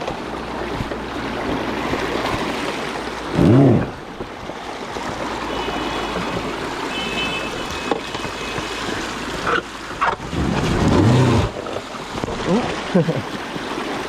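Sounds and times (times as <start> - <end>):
electric motorcycle riding off-road: 0.0 - 14.0.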